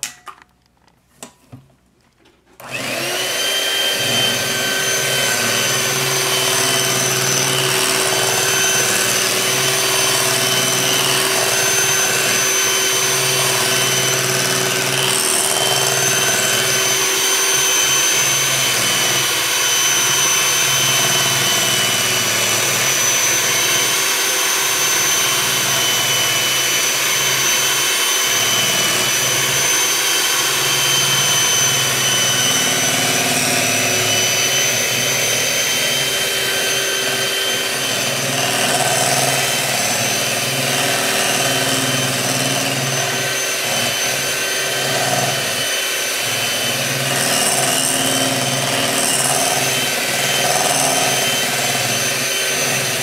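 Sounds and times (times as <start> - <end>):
electric hand mixer whirring: 2.6 - 53.0.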